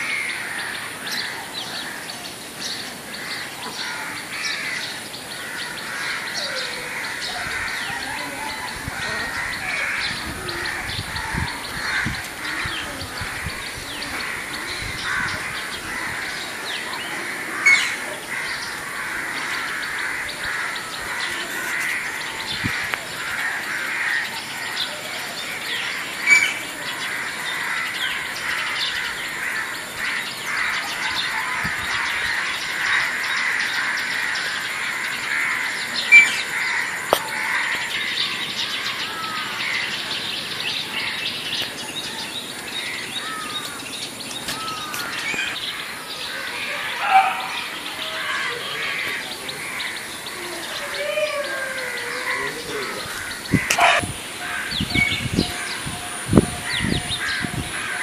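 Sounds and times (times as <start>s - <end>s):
birds chirping chorus: 0.0s - 58.0s
loud bird calls: 0.0s - 58.0s.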